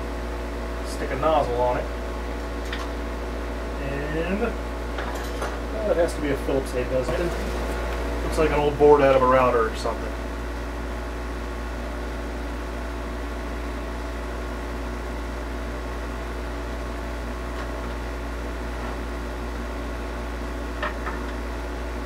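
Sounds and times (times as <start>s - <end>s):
air pump hum: 0.0s - 22.0s.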